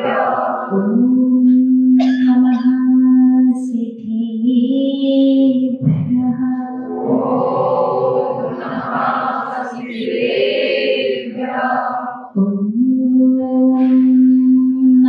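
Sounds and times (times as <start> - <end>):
woman chanting through microphone: 0.0 - 15.0.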